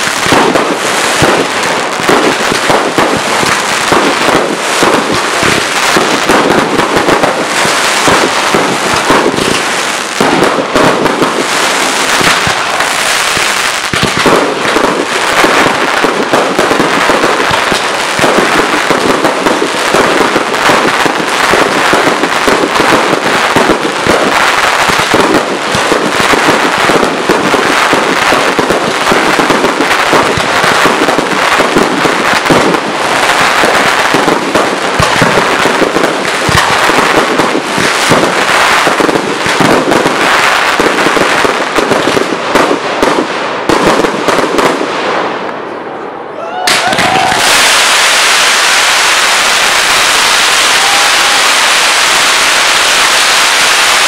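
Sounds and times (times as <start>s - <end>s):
fireworks bursts and crackle: 0.0s - 54.0s.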